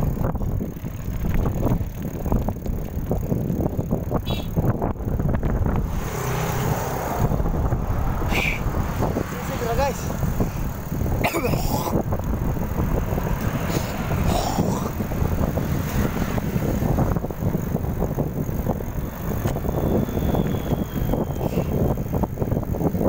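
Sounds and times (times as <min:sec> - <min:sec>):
road and wind noise: 0:00.0 - 0:23.0
traffic: 0:00.0 - 0:23.0.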